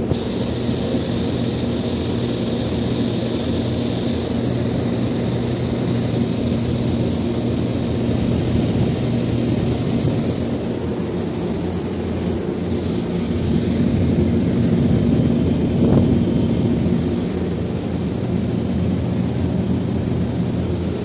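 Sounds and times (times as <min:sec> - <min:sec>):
refrigerator fan whirring: 0:00.0 - 0:21.0
thin high whine: 0:00.0 - 0:21.0.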